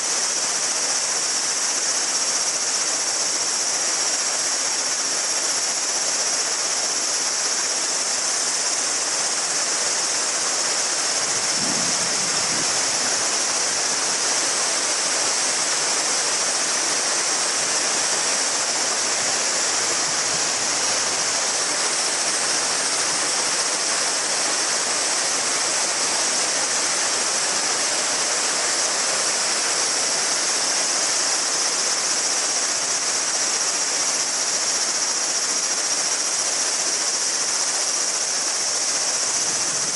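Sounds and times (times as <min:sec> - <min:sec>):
cicadas droning: 0:00.0 - 0:39.9
river babbling: 0:00.0 - 0:39.9.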